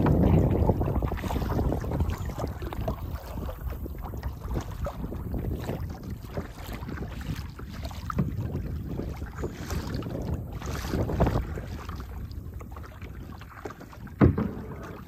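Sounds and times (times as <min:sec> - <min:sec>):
paddle splashing in water: 0:00.0 - 0:15.0
wind buffeting microphone: 0:00.0 - 0:15.0.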